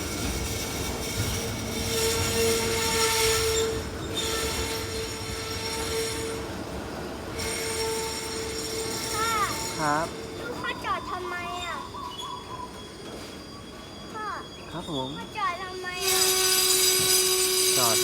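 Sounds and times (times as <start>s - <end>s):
freight wagons rumbling: 0.0s - 18.0s
train wheels and brakes squealing: 0.0s - 18.0s.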